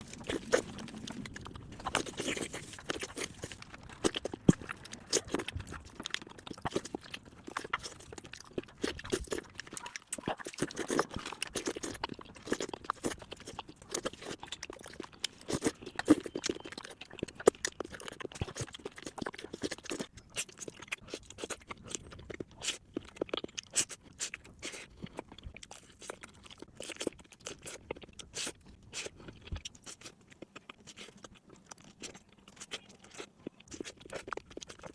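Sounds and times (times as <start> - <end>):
chewing with sharp crunches: 0.0 - 34.9.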